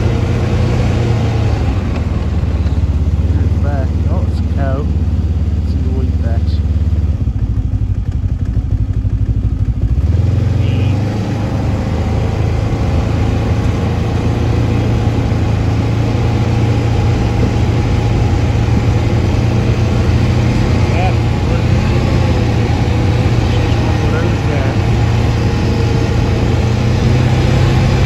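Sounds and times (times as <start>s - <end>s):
snowmobile engine: 0.0s - 28.0s.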